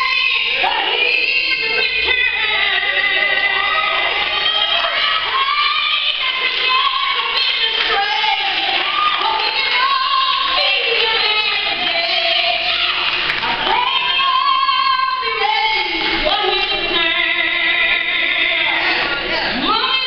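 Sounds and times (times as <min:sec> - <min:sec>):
woman singing gospel solo: 0:00.0 - 0:20.0.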